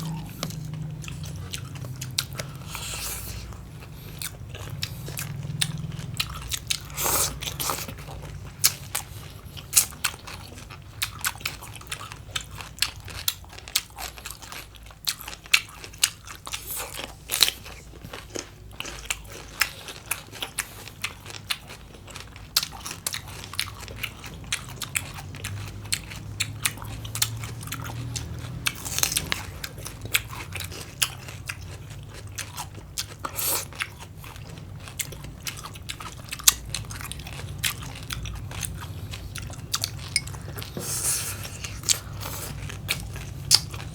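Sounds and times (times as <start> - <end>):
crunching and chewing salad: 0.0 - 43.9
low steady hum: 0.0 - 43.9.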